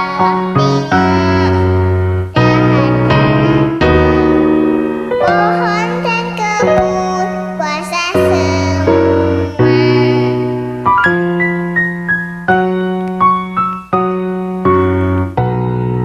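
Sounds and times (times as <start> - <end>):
electric piano backing track: 0.0 - 16.0.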